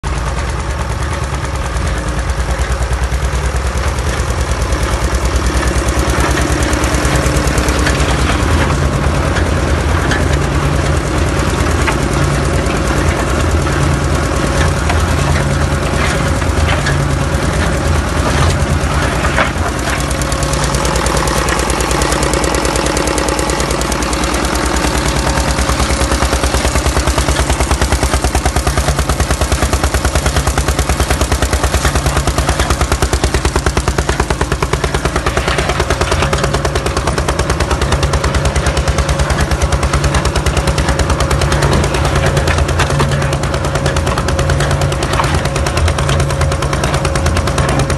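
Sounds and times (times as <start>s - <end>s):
mixer rollers clattering: 0.0s - 47.9s
small engine running: 0.0s - 47.9s.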